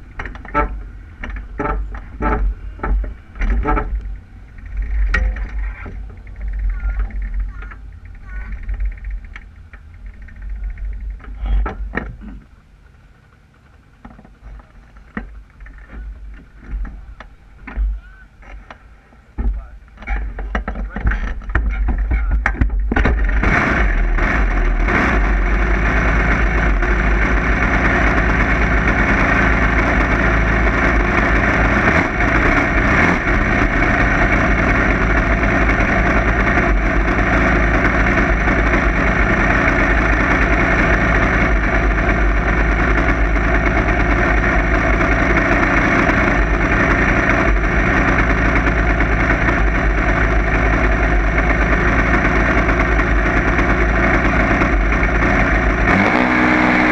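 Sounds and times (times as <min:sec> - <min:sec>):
dragster engine idling: 0:00.0 - 0:56.9.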